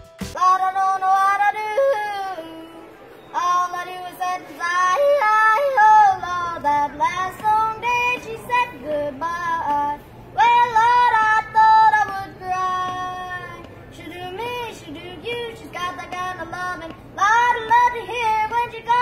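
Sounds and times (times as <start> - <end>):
high voice singing: 0.4 - 19.0.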